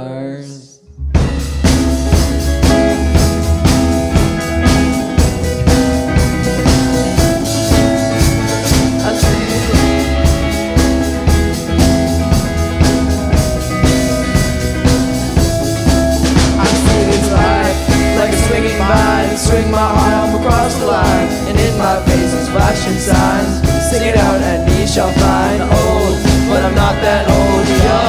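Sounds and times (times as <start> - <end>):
guitar: 0.8 - 28.0
drum kit beat: 1.0 - 28.0.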